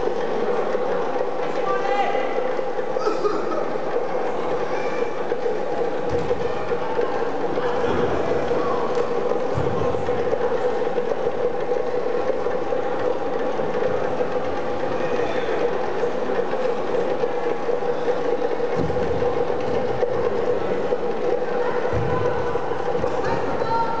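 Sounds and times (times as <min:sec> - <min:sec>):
constant hum: 0:00.0 - 0:24.0.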